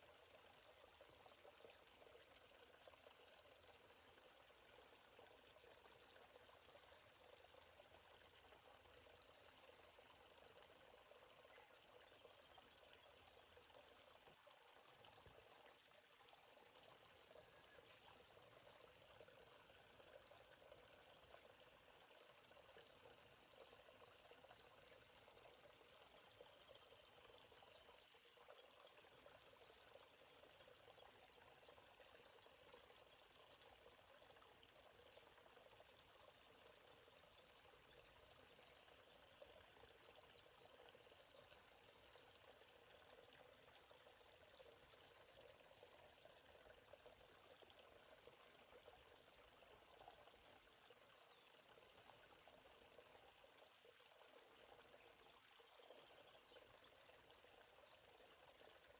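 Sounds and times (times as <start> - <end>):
insects droning: 0.0 - 58.9
stream trickling: 0.0 - 58.9.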